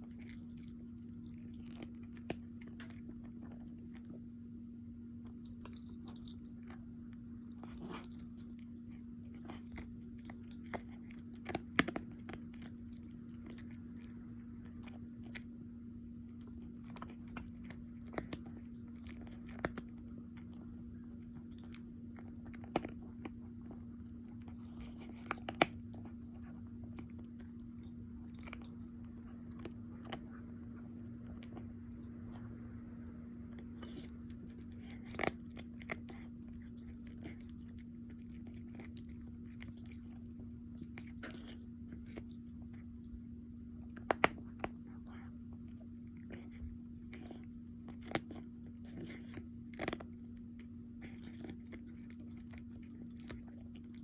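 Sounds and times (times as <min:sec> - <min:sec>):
animal crunching and chewing food: 0:00.0 - 0:54.0
steady low hum: 0:00.0 - 0:54.0.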